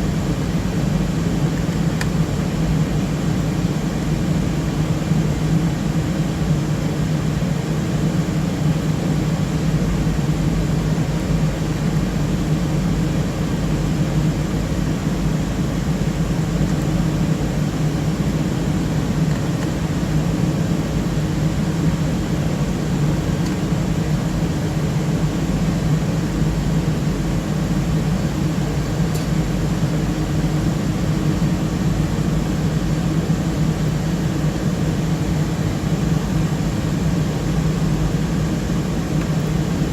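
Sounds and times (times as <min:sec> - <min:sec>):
cooling fans whirring: 0:00.0 - 0:39.9.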